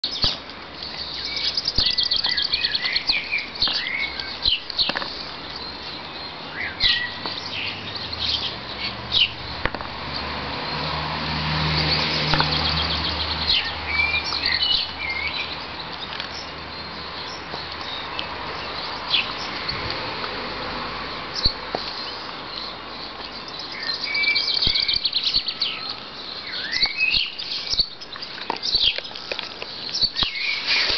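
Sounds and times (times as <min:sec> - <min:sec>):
songbirds chirping and trilling: 0:00.0 - 0:30.9.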